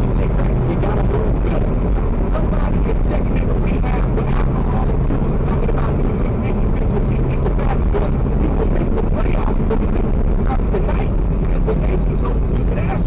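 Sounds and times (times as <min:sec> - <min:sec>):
car engine and tyre hum: 0:00.0 - 0:13.0.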